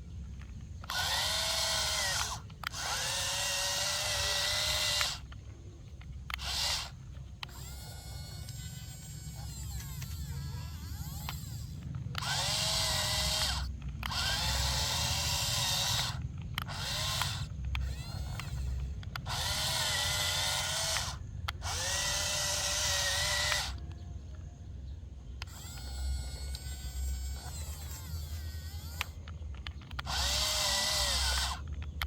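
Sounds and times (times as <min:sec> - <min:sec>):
toy electric motors whirring: 0:00.0 - 0:32.0.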